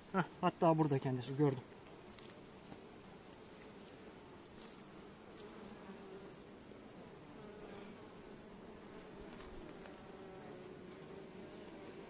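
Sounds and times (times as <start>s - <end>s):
bees buzzing: 0.1s - 12.0s.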